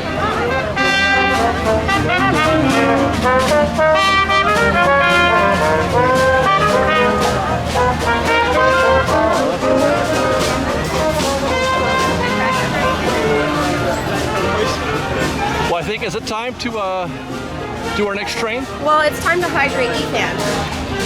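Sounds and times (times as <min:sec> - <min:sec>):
jazz brass music: 0:00.0 - 0:21.0.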